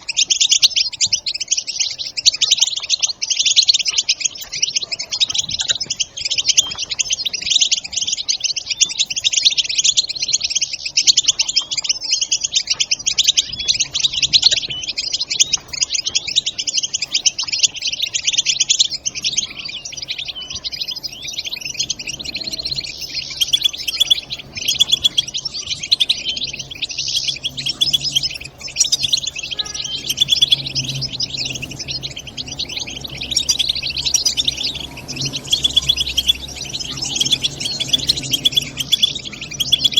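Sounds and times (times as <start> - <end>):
goldfinch twittering and trilling: 0.0 - 39.9.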